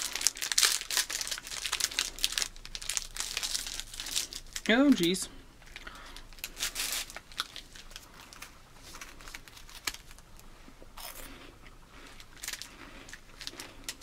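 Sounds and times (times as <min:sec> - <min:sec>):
crunchy cookie being chewed: 0:00.0 - 0:04.6, 0:05.6 - 0:14.0
plastic wrapper crinkling: 0:00.0 - 0:11.3, 0:12.0 - 0:14.0.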